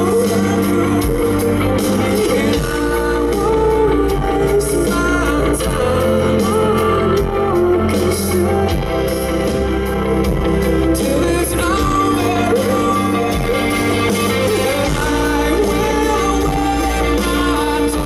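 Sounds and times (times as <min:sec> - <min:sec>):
live rock band playing: 0:00.0 - 0:18.0
man singing: 0:00.0 - 0:18.0.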